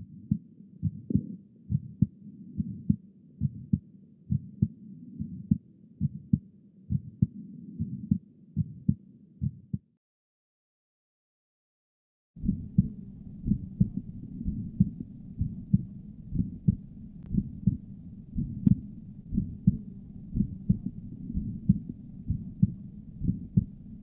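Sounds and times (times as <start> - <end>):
heartbeats: 0.0 - 9.8, 12.4 - 24.0
heart murmur: 0.2 - 9.8, 12.4 - 24.0.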